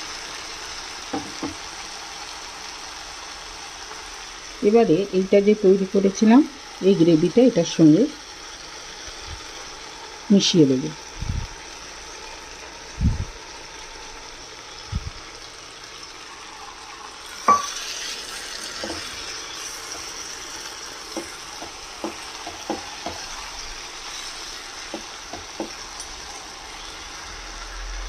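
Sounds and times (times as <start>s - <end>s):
curry sizzling and bubbling: 0.0s - 28.0s.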